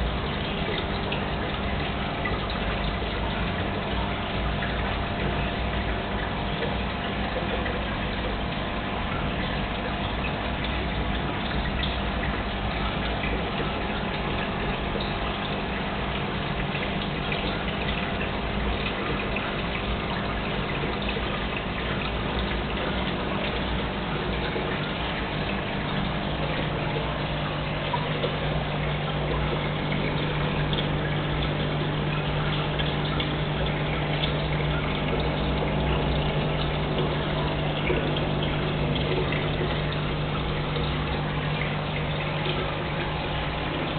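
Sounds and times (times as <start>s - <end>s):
aquarium water bubbling: 0.0s - 43.9s
low electrical hum: 0.0s - 43.9s.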